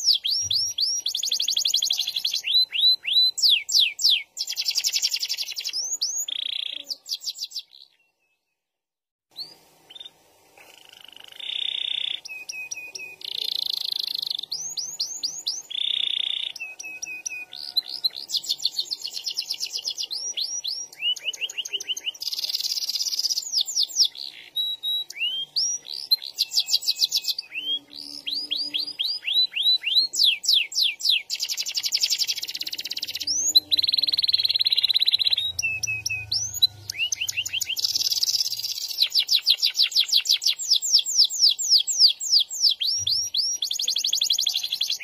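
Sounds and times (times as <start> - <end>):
canary singing trills: 0.0 - 8.5, 9.3 - 45.0.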